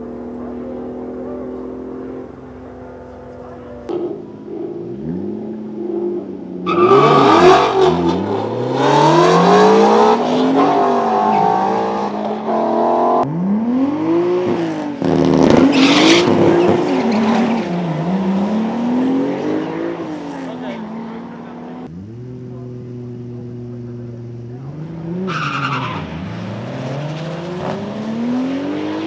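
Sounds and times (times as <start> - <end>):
car engines revving hard: 0.0 - 29.0
exhaust and tyre noise: 0.0 - 29.0.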